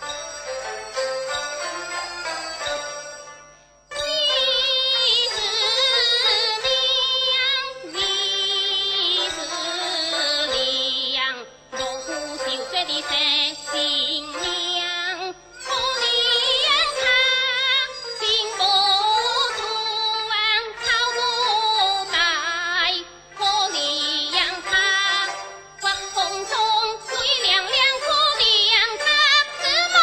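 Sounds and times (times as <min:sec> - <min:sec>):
instrumental accompaniment: 0:00.0 - 0:30.0
high voice singing with vibrato: 0:03.9 - 0:30.0.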